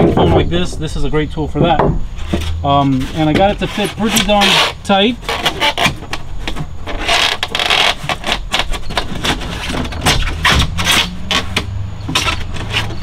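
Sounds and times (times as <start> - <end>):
foam board scraping and squeaking: 0.0 - 13.0.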